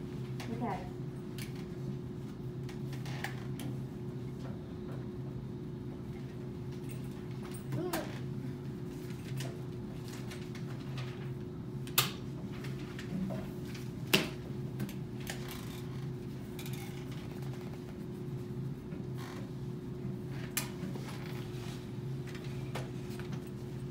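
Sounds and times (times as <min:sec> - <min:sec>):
low room hum: 0:00.0 - 0:23.9.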